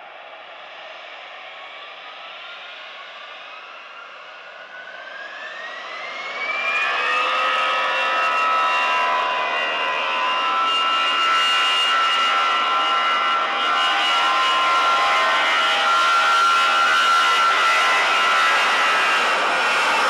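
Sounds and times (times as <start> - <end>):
jet engines at full power: 0.0 - 20.0.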